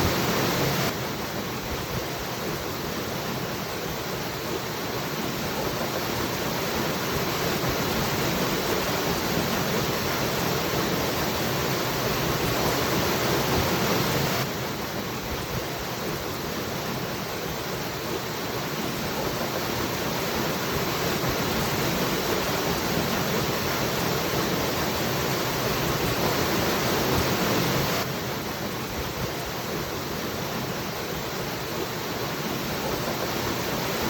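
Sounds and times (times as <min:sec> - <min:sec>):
waterfall rushing: 0:00.0 - 0:01.5, 0:02.2 - 0:15.1, 0:15.8 - 0:34.0.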